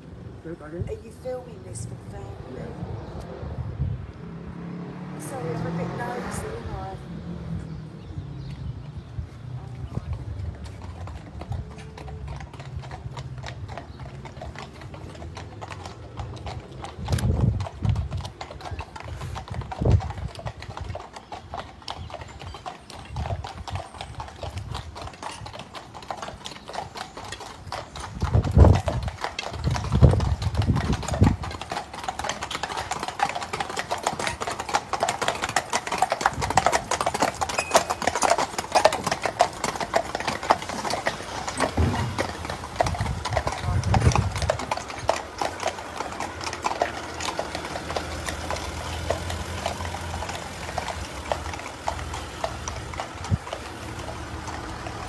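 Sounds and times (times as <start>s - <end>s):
horse hooves clip-clopping: 5.2s - 55.0s.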